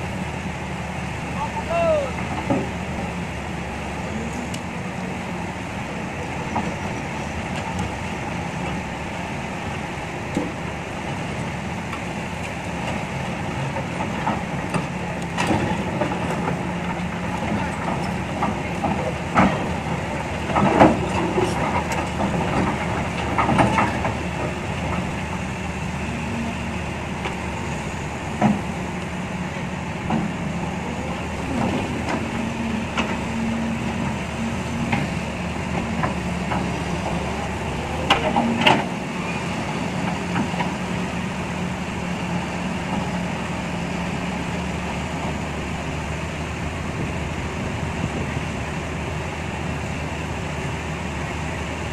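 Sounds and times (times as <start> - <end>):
diesel excavator engine running: 0.0 - 51.9.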